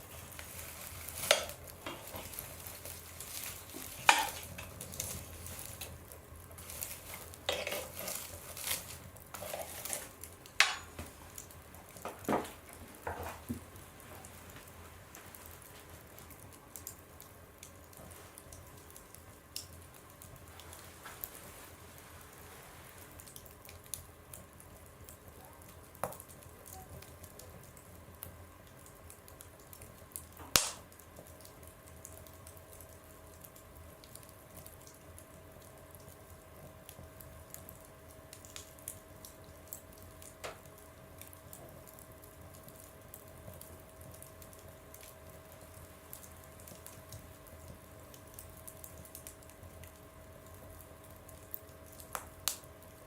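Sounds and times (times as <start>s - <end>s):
wood stove fire crackling: 0.0s - 53.0s.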